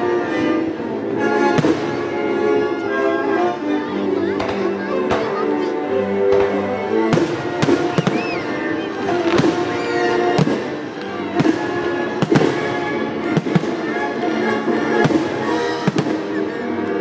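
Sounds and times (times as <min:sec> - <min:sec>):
fireworks bursting with sharp bangs: 0:00.0 - 0:02.9, 0:04.2 - 0:17.0
music with long held notes: 0:00.0 - 0:17.0.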